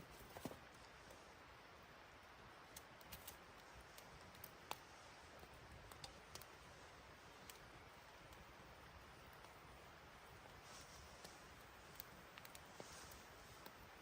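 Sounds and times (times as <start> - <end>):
faint sharp clicks and ticks: 0.1 - 14.0.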